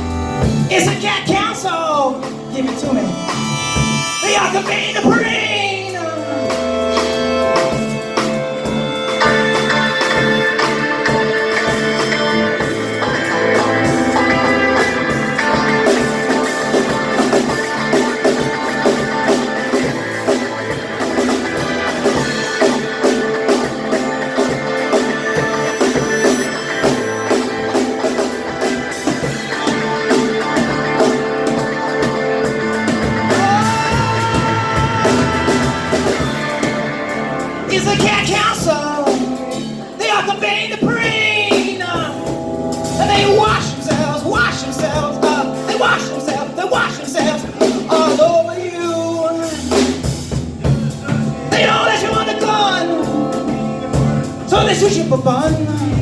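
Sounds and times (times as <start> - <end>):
drum kit: 0.0 - 56.0
electric guitar: 0.0 - 56.0
live rock band playing: 0.0 - 56.0.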